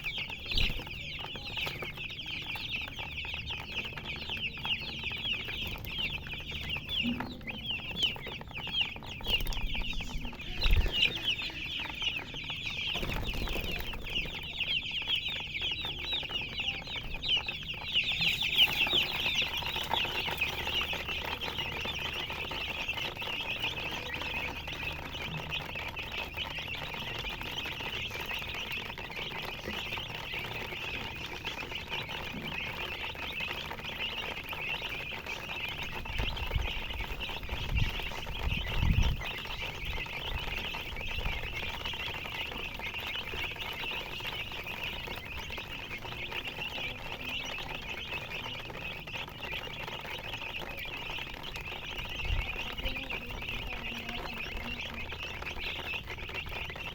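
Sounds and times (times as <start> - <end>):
baby chicks peeping: 0.0 - 56.9.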